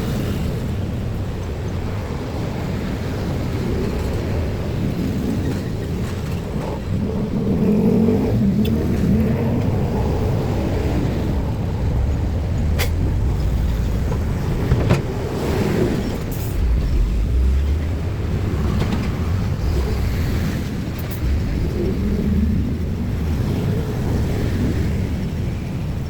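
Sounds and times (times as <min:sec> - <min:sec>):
road vehicles passing: 0:00.0 - 0:26.0.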